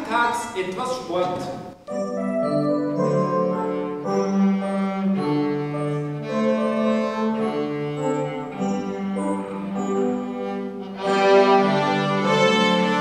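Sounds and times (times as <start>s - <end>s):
string ensemble bowed notes: 2.0s - 13.0s.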